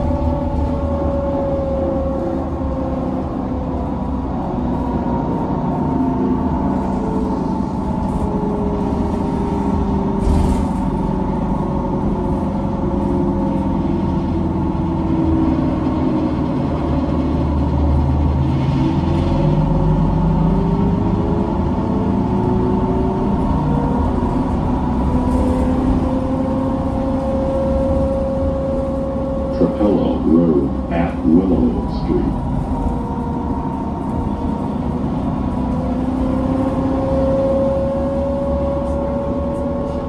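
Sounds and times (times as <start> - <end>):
road rumble: 0.0 - 40.0.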